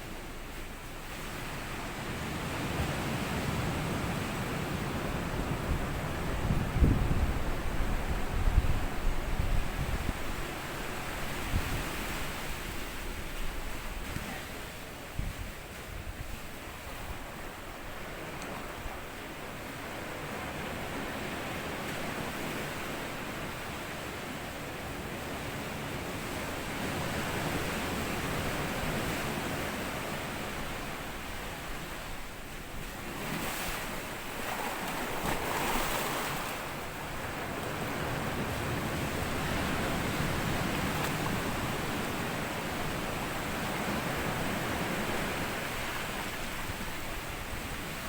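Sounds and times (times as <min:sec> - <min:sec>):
sea waves breaking on beach: 0:01.1 - 0:48.0.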